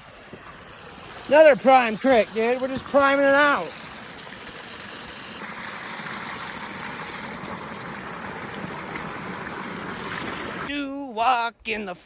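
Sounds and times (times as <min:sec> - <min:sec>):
water rushing over rocks: 0:00.0 - 0:10.7.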